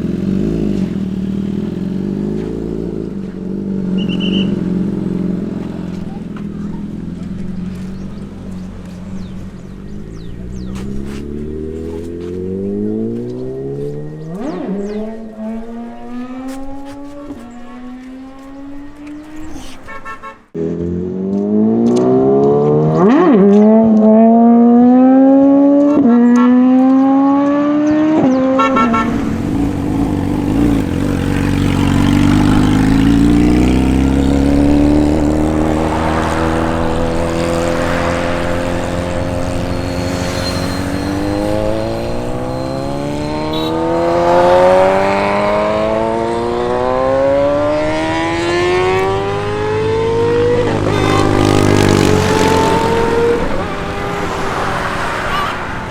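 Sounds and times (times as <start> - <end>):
motorbike engines accelerating hard: 0.0 - 55.9.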